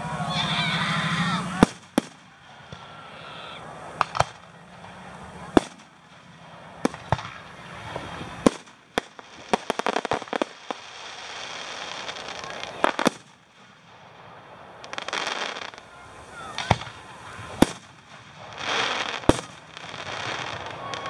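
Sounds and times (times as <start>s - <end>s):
fireworks bangs: 0.0s - 21.0s
fireworks crackling pops: 0.3s - 21.0s.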